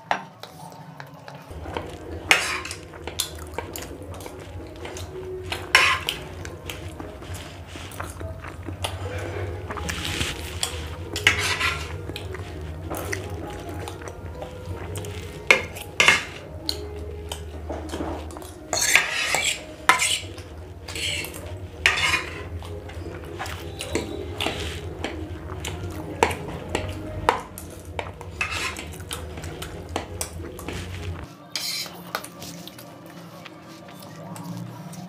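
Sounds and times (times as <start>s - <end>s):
cutlery scraping on plates: 1.5s - 32.8s.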